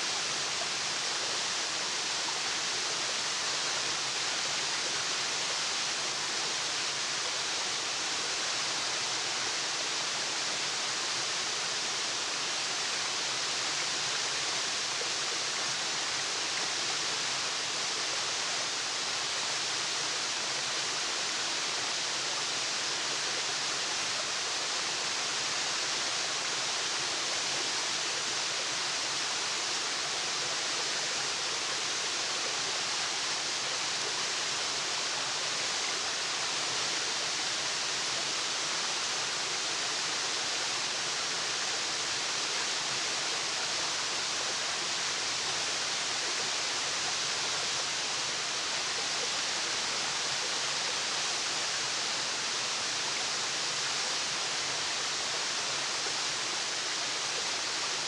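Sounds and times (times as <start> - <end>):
waterfall rushing hiss: 0.0 - 58.0.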